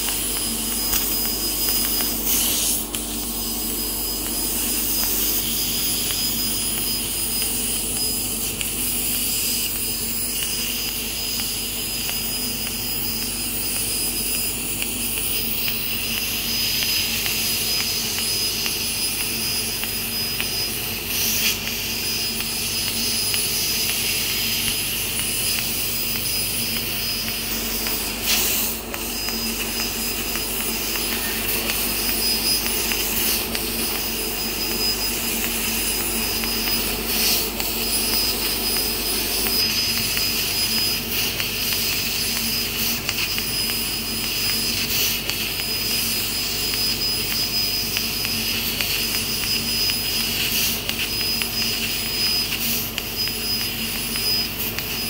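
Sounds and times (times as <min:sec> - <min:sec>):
laser cutter hiss: 0:00.0 - 0:55.0
thin high whine: 0:00.0 - 0:55.0.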